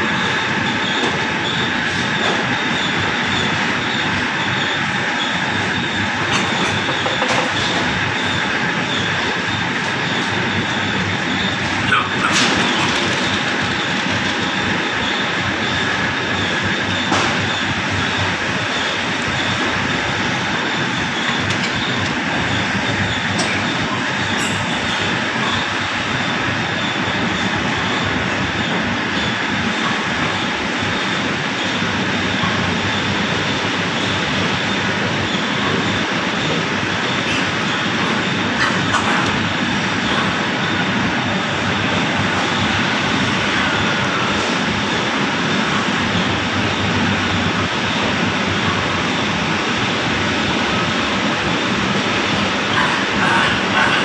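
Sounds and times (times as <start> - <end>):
mechanical rushing noise: 0.0 - 54.0.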